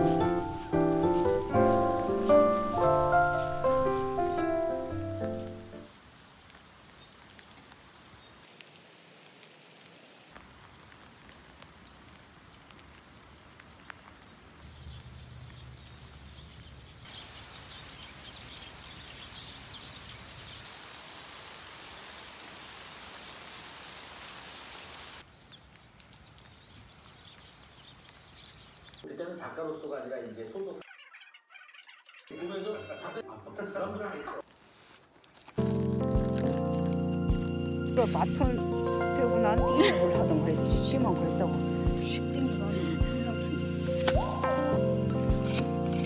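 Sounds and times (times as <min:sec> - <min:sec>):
rain falling: 0:00.0 - 0:29.1, 0:35.6 - 0:46.0.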